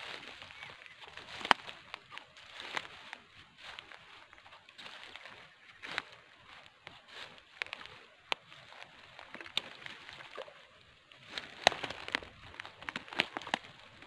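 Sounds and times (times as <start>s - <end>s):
footsteps splashing in water: 0.0s - 14.0s.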